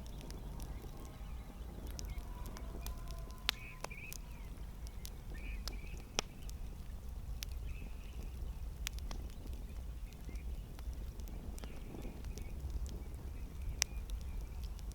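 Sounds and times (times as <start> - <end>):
campfire pops and snaps: 0.0 - 14.9
low rumble of fire: 0.0 - 14.9.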